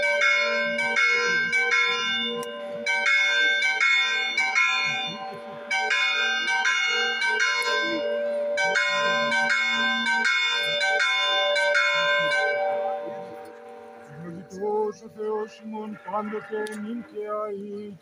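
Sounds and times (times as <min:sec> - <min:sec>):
church bells ringing: 0:00.0 - 0:18.0.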